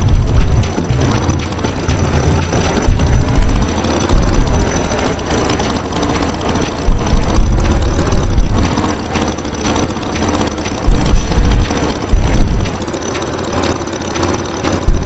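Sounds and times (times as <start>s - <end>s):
tractor engine chugging: 0.0s - 15.0s.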